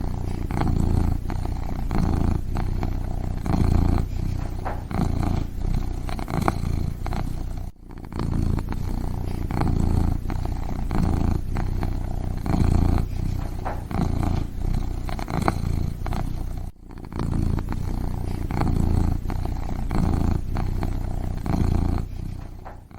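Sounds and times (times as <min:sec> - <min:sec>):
kitten purring: 0:00.0 - 0:22.9.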